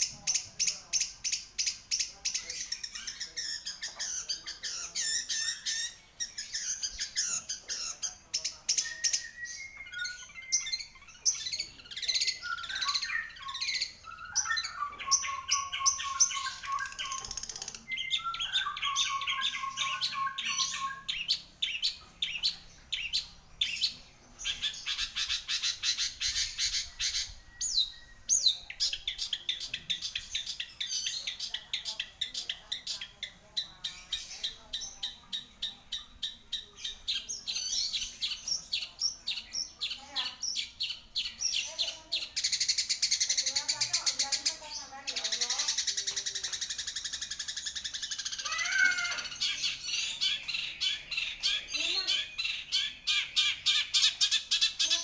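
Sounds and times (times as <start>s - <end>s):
bird singing harsh chattering notes: 0.0s - 55.0s.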